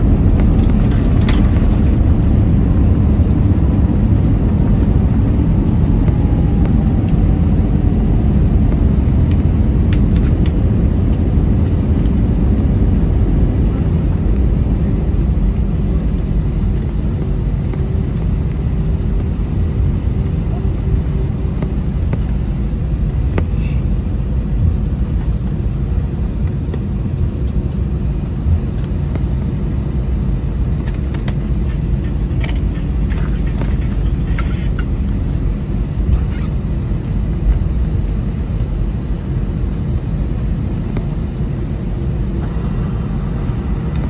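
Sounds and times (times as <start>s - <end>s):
aircraft cabin rumble: 0.0s - 44.0s.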